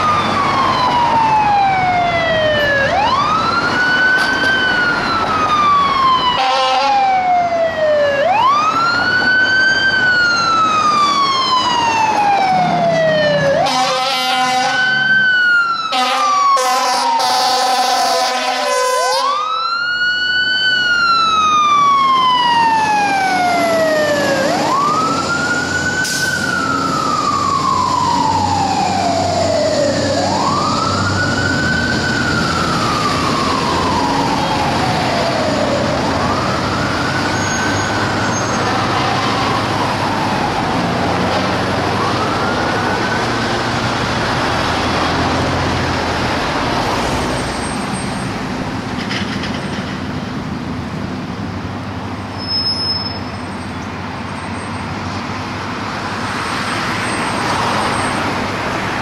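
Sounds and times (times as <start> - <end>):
fire truck mechanical siren: 0.0 - 48.8, 52.2 - 59.0
traffic and engine noise: 0.0 - 59.0.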